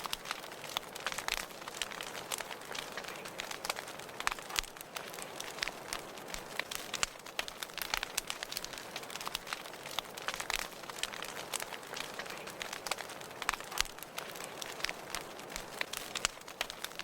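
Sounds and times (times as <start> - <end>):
soft fire hiss: 0.0 - 17.0
wood fire crackling and popping: 0.0 - 17.0.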